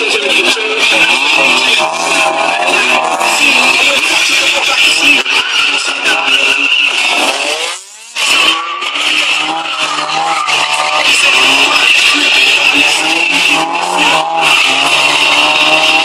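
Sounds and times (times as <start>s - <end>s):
car engine revving: 0.0s - 16.0s
tyres squealing: 0.0s - 16.0s.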